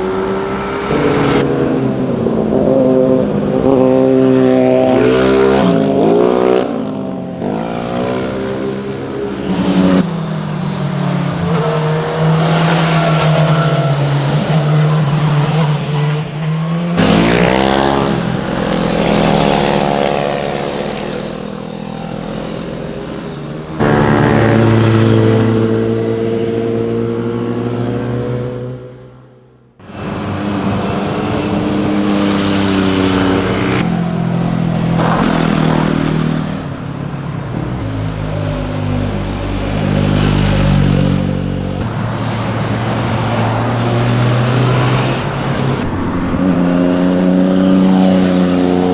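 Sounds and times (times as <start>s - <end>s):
sport motorcycles revving: 0.0s - 48.9s.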